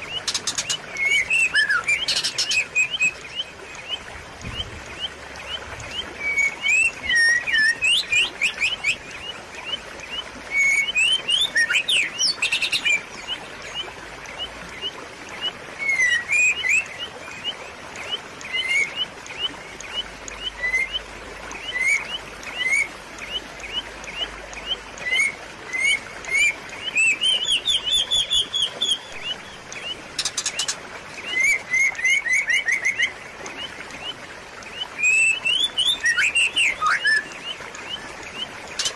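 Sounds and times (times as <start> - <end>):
babbling water: 0.0 - 38.9
songbird chirping: 0.0 - 38.9.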